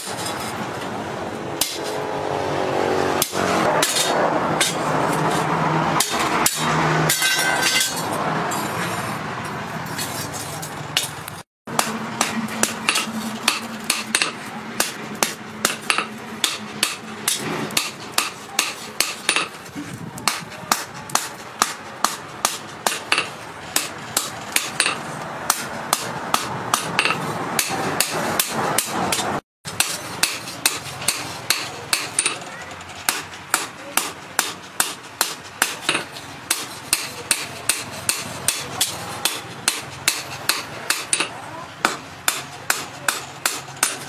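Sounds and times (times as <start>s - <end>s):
hammer striking steel on anvil: 1.6s - 2.0s, 3.2s - 5.4s, 6.0s - 8.7s, 11.0s - 19.6s, 20.2s - 32.4s, 33.1s - 44.0s.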